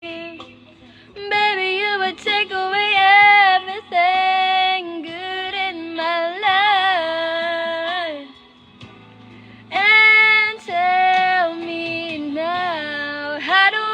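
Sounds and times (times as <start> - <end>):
faint musical accompaniment: 0.0 - 13.9
woman singing with vibrato: 1.2 - 8.4, 9.7 - 13.9.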